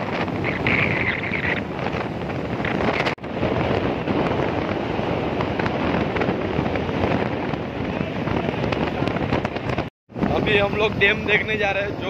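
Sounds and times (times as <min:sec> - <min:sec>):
motorbike road and engine noise: 0:00.0 - 0:12.0
wind buffeting microphone: 0:00.0 - 0:12.0.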